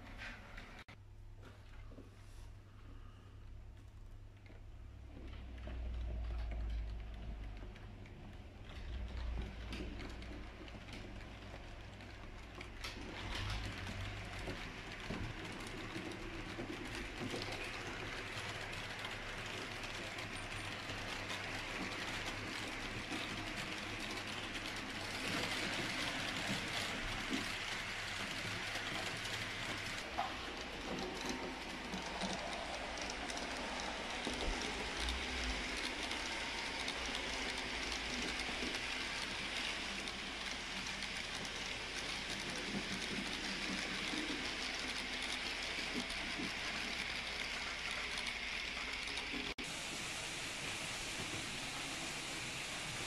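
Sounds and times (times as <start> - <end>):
model train running: 4.9 - 53.0.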